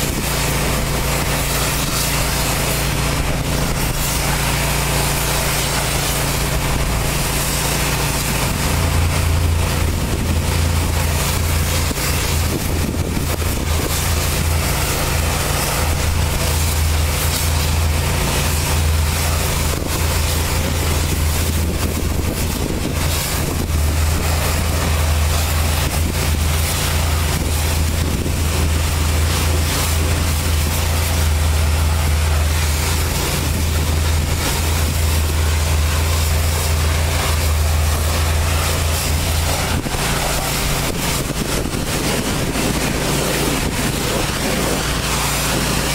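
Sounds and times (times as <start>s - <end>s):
pressure washer engine hum: 0.0s - 45.9s
water spray hissing: 0.0s - 45.9s.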